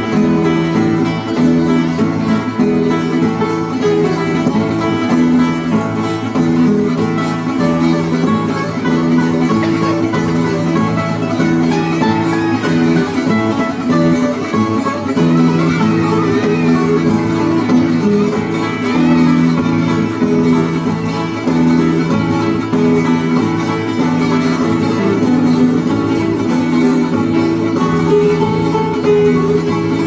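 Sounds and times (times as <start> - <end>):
acoustic guitars playing: 0.0 - 30.0.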